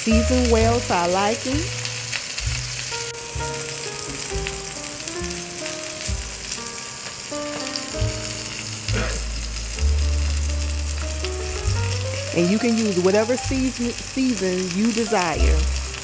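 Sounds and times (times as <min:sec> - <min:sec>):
steaks sizzling on a griddle: 0:00.0 - 0:16.0
background music with bass line: 0:00.1 - 0:16.0.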